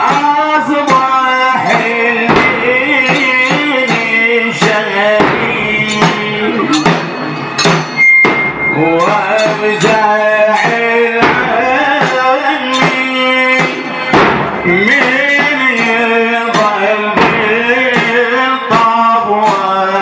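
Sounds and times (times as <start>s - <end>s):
man chanting a lament: 0.0s - 6.8s, 8.8s - 20.0s
deep bass drum beats: 0.0s - 19.8s.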